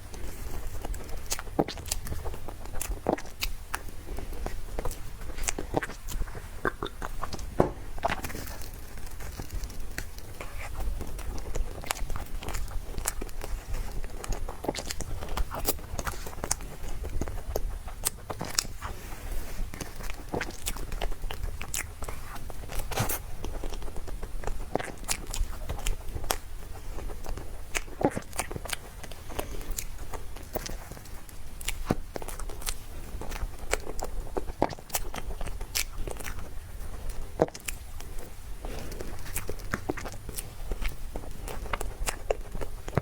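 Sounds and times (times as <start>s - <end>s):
biting and chewing: 0.0s - 43.0s.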